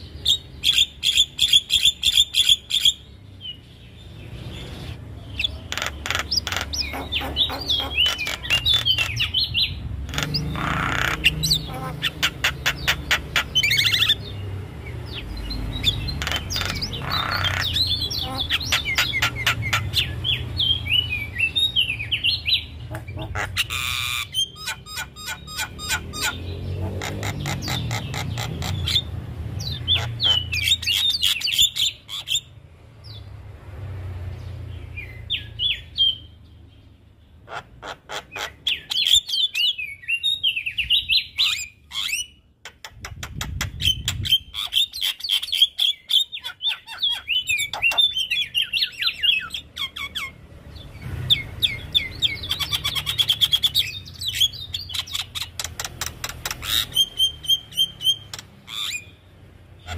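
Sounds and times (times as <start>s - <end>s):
bird chattering and whistling: 0.0s - 3.6s, 4.5s - 32.5s, 37.4s - 50.4s, 51.3s - 59.2s.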